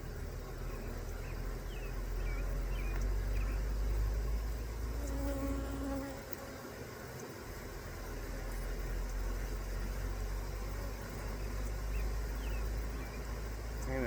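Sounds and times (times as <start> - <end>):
bee buzzing loudly close by: 0.0 - 14.0
bees buzzing: 0.0 - 14.0.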